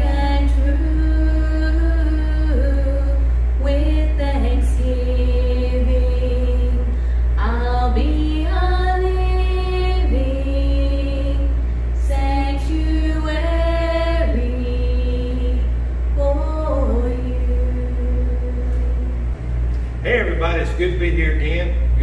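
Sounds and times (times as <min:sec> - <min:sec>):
women singing a hymn: 0:00.0 - 0:19.4
steady low hum: 0:00.0 - 0:22.0.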